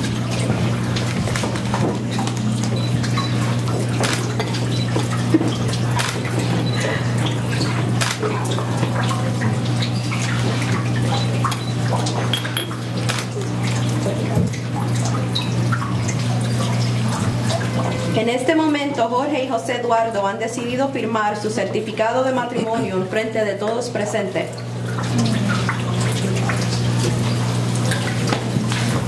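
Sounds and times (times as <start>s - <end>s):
water trickling and dripping: 0.0s - 18.2s, 23.6s - 29.0s.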